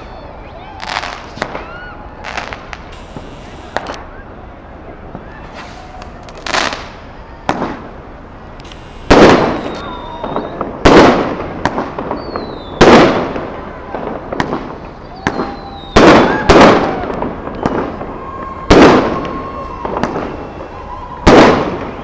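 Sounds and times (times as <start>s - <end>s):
fireworks bursting: 0.0s - 22.0s
fireworks crackling: 0.0s - 22.0s.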